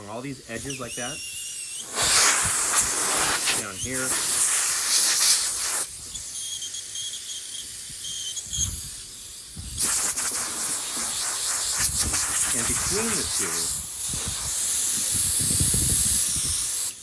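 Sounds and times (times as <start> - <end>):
compressed air nozzle hissing: 0.4 - 17.0.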